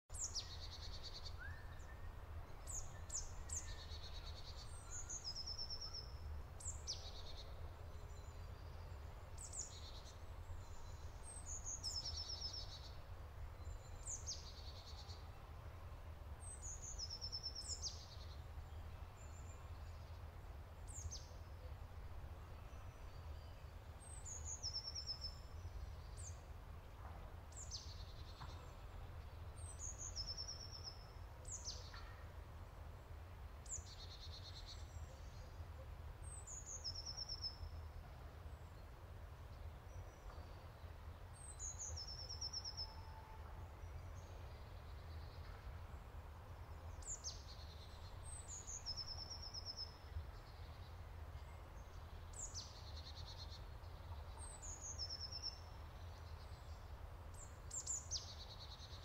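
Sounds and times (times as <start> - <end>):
bird singing chirps: 0.1 - 15.6, 16.4 - 26.5, 27.5 - 32.2, 33.6 - 35.6, 36.2 - 37.9, 39.5 - 46.0, 46.6 - 59.0.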